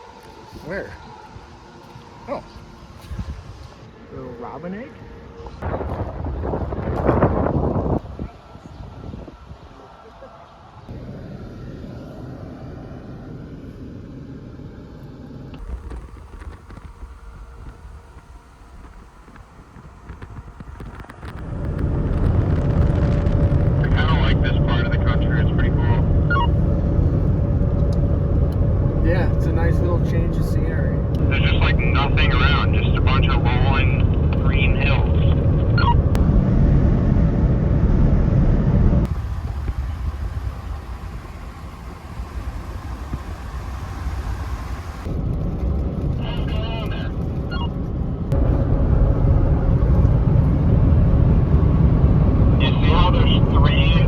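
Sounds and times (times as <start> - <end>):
truck road and wind noise: 0.0 - 54.0.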